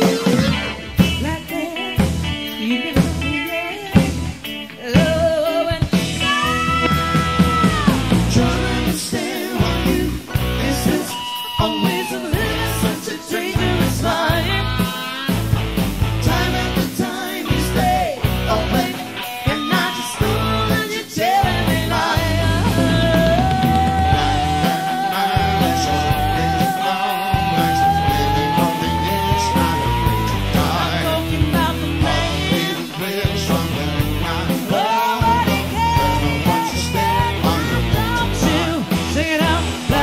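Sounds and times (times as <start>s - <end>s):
rock band playing: 0.0s - 40.0s.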